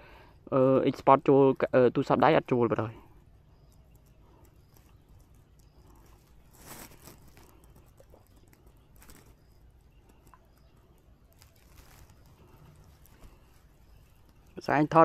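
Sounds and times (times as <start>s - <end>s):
faint rustling: 2.7s - 15.0s.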